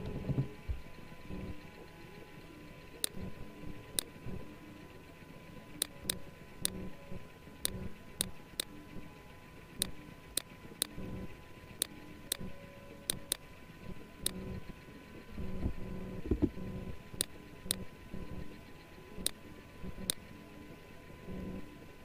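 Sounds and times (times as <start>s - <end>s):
faint background hum: 0.0s - 22.0s.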